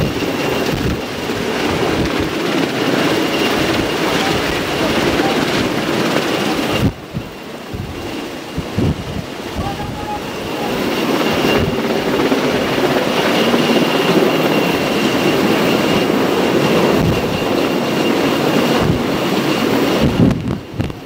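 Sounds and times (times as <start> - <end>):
high whine: 0.0 - 19.0
helicopter rotor rumble: 0.0 - 21.0.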